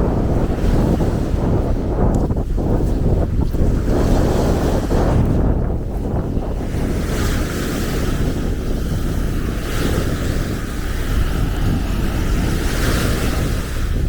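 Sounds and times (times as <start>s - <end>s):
small waves washing onto beach: 0.0s - 14.0s
wind buffeting microphone: 0.0s - 14.0s.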